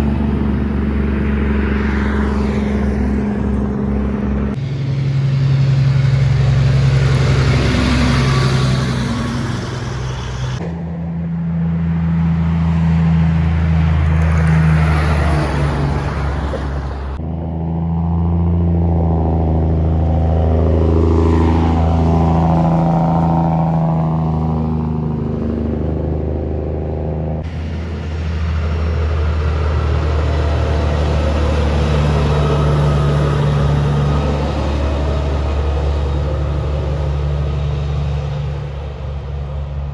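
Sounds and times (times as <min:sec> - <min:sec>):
diesel trucks driving past: 0:00.0 - 0:39.9.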